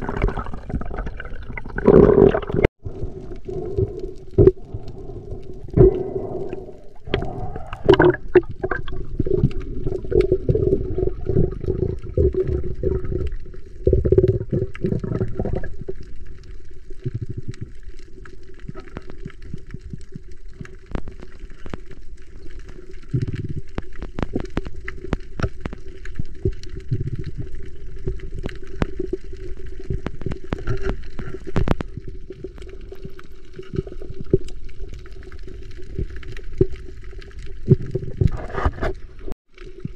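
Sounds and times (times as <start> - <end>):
muffled sloshing and bubbling: 0.0 - 39.9
steady underwater hum: 0.0 - 39.9
sharp clicks underwater: 3.3 - 39.9.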